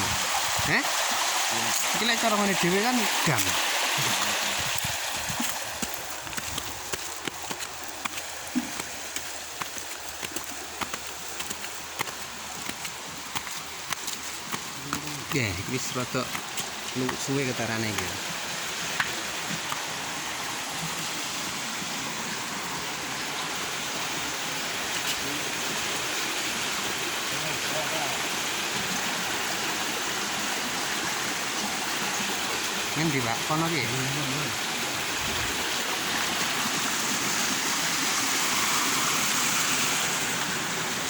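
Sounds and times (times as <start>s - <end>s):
water rushing over a dam: 0.0s - 41.0s.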